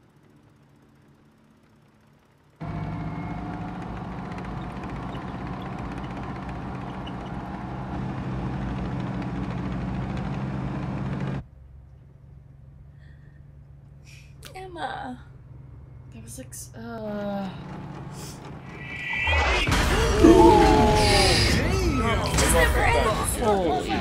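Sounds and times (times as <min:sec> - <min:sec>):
tank engines rumbling: 0:00.0 - 0:24.0.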